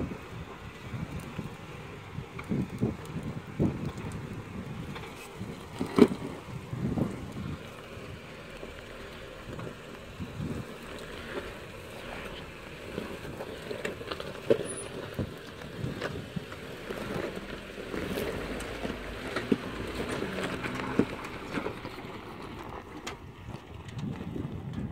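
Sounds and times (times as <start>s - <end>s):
off-road vehicle engine rumbling: 0.0s - 24.9s
stones and gravel crunching: 2.4s - 24.5s.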